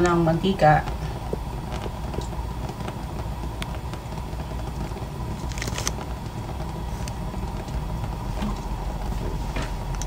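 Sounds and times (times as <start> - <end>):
gas burner rumbling: 0.0 - 10.0.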